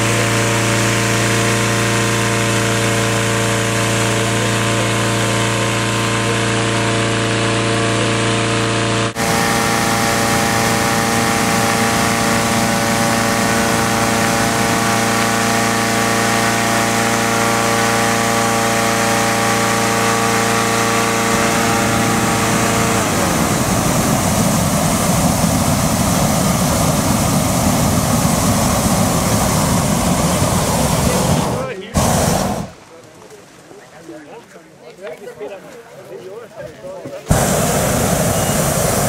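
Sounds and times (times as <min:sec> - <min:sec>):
inflator fan blowing air: 0:00.0 - 0:32.8, 0:37.3 - 0:39.0
propane burner flame rushing: 0:00.0 - 0:32.8, 0:37.3 - 0:39.0.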